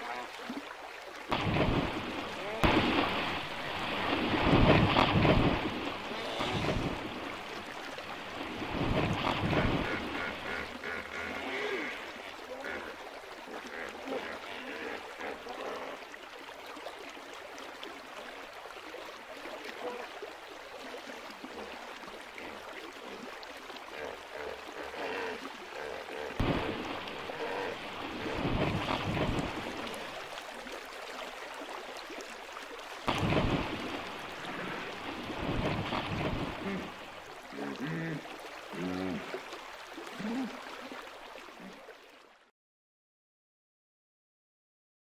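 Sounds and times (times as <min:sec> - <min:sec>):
water splashing and churning: 0:00.0 - 0:42.5.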